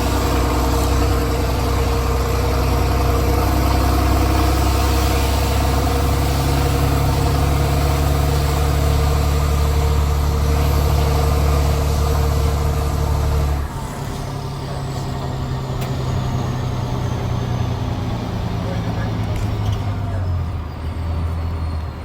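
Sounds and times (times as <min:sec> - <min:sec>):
diesel bus engine running: 0:00.0 - 0:22.0.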